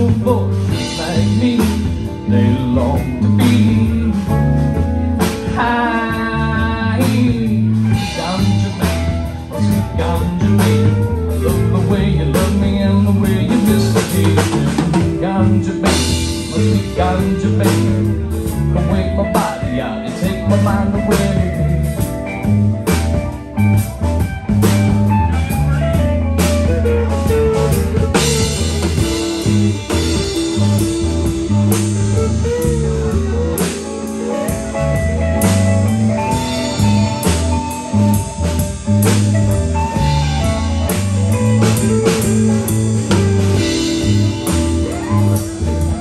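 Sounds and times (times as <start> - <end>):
bass guitar: 0.0 - 46.0
drum kit beat: 0.0 - 46.0
electric guitars: 0.0 - 46.0.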